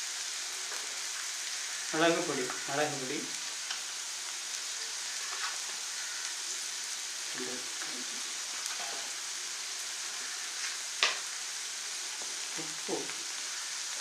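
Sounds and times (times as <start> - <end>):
blood frying in oil: 0.0 - 14.0.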